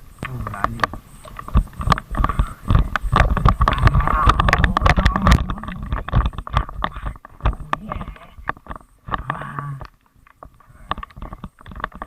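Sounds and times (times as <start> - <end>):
wind noise on microphone: 0.0 - 12.0
bicycle knocks and rattles: 0.3 - 9.3, 10.3 - 12.0.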